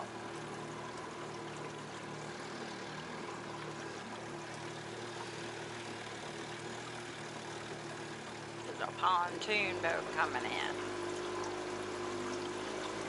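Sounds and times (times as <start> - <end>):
boat motor humming: 0.0 - 13.0
water rushing along hull: 0.0 - 13.0.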